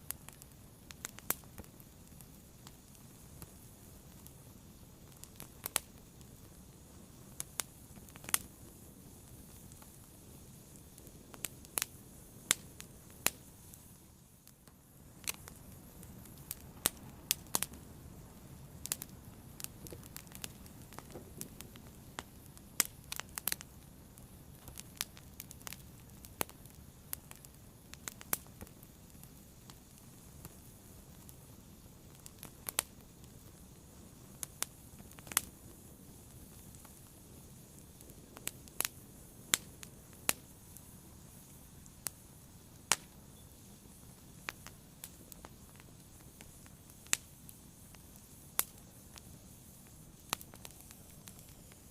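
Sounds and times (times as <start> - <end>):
low rumble of flame: 0.0 - 51.9
wood fire crackling: 0.0 - 51.9.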